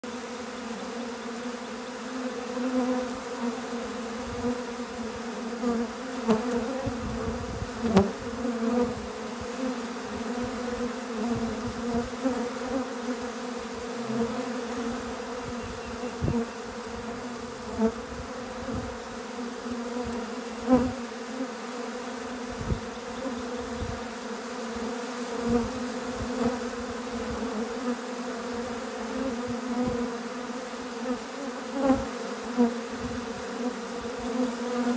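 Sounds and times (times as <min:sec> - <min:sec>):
honeybees buzzing: 0:00.0 - 0:34.9.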